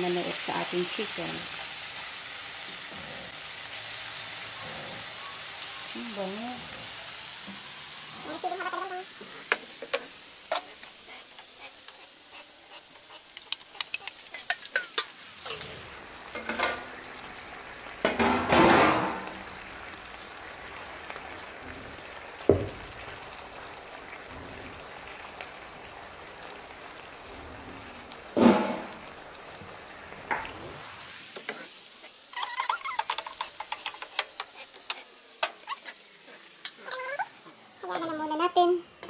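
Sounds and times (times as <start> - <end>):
chicken sizzling in a frying pan: 0.0 - 38.4.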